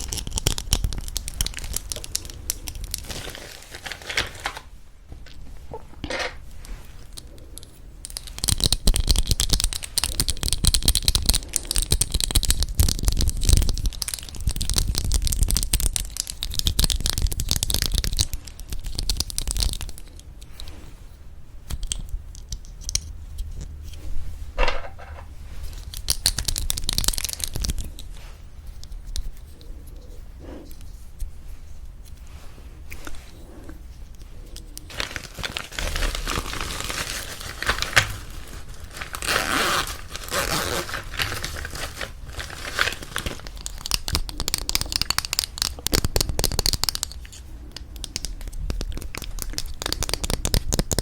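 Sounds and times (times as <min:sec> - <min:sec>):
material crinkling and scratching: 0:00.0 - 0:21.1, 0:22.3 - 0:51.0.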